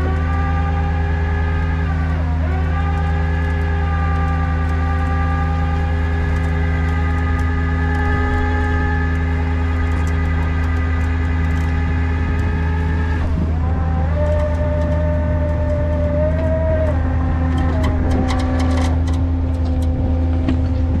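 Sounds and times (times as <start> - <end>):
diesel engine running: 0.0 - 21.0
winch whine: 0.0 - 21.0.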